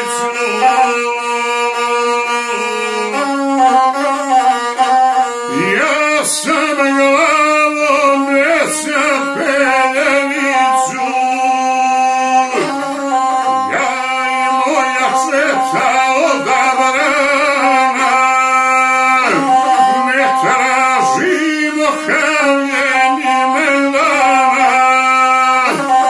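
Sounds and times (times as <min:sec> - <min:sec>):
bowed single-string fiddle: 0:00.0 - 0:26.0
man singing with wavering pitch: 0:00.0 - 0:26.0.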